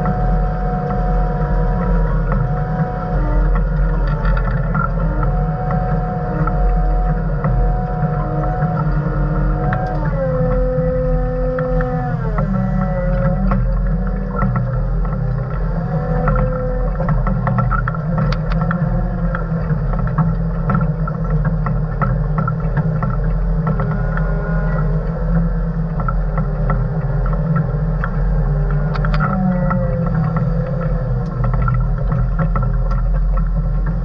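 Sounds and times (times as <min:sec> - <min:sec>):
whine sliding in pitch: 0:00.0 - 0:34.0.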